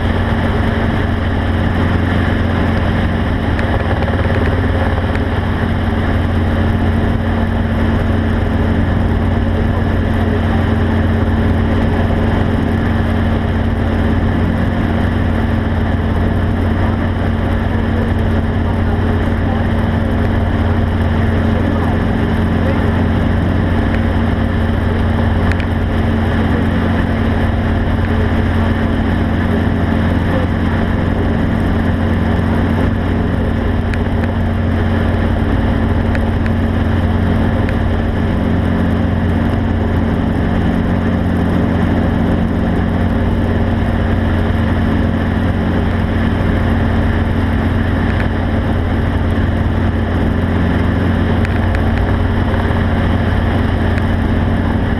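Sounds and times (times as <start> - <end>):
engine drone: 0.0 - 54.9.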